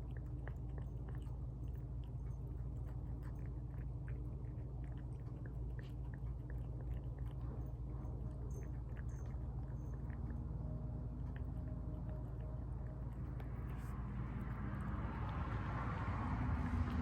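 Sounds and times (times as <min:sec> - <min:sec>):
pets chewing and lip-smacking: 0:00.0 - 0:17.0
steady low hum: 0:00.0 - 0:17.0.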